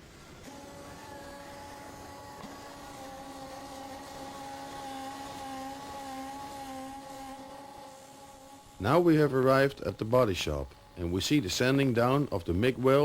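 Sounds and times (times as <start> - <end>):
factory machinery whine: 0.0 - 11.4.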